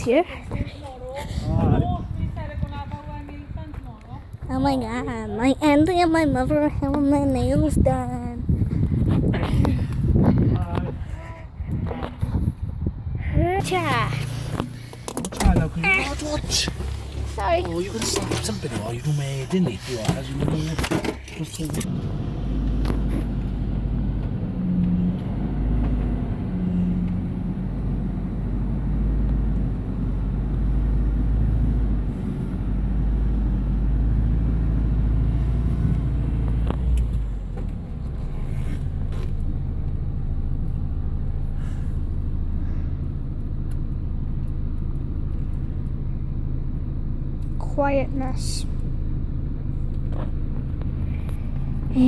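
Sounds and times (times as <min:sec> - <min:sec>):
engine hum: 0:00.0 - 0:52.0
vehicle rumble from inside: 0:00.0 - 0:52.0.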